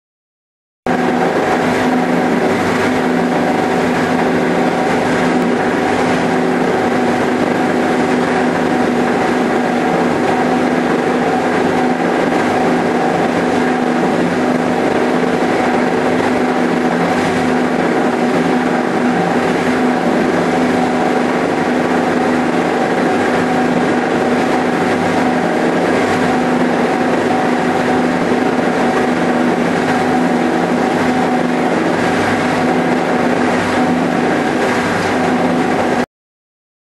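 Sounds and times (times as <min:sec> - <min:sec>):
blower humming: 0:00.9 - 0:36.0.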